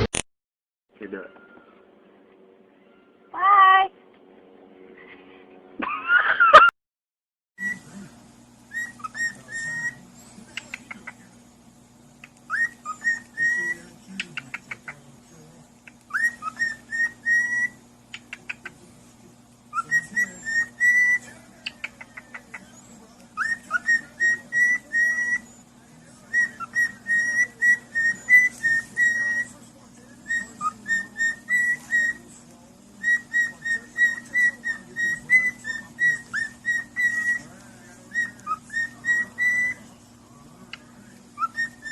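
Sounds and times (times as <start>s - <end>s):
faint steady hum: 7.6s - 41.9s.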